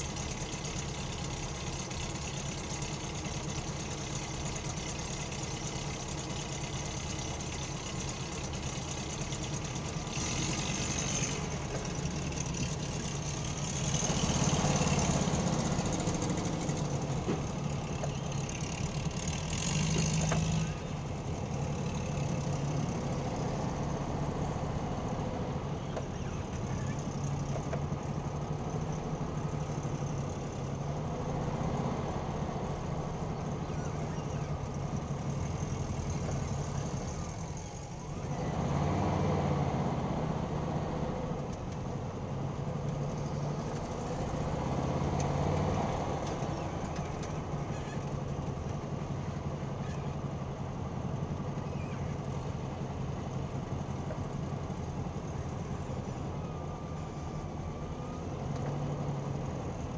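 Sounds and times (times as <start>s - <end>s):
car engine idling: 0.0s - 38.5s, 40.2s - 59.9s.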